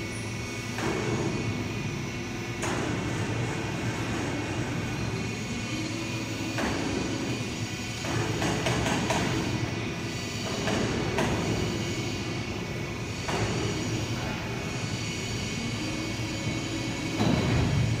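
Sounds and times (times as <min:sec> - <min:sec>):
machine drone with high whine: 0:00.0 - 0:18.0.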